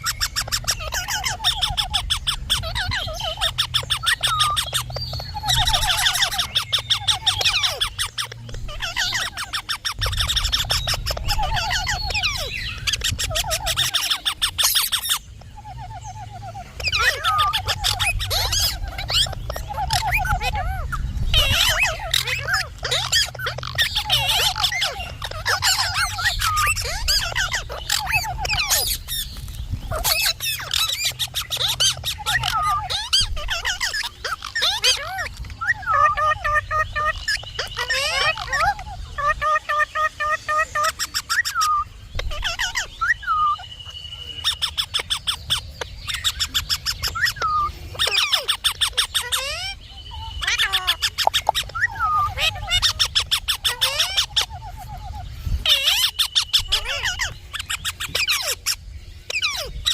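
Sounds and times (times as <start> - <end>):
parakeet chattering: 0.0 - 59.9.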